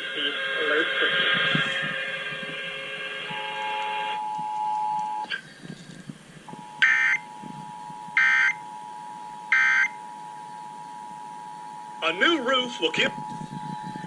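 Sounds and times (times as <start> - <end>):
steady attention tone: 0.0 - 14.0.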